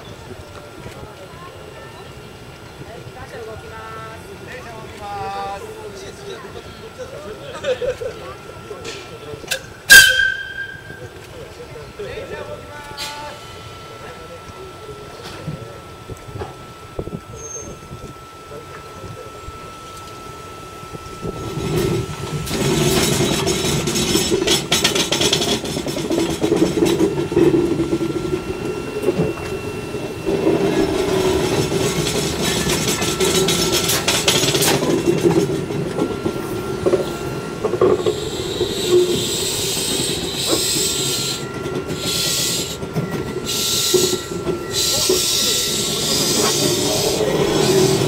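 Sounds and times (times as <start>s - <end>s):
wheels squealing on rails: 4.4s - 48.0s
train cars knocking: 5.9s - 11.7s, 14.1s - 48.0s.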